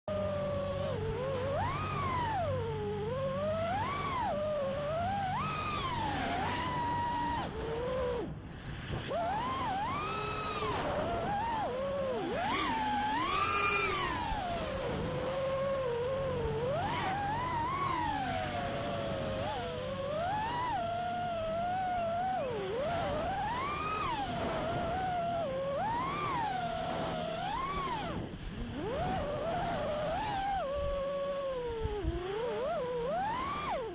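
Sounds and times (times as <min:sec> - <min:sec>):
quadcopter motors whining: 0:00.1 - 0:33.9.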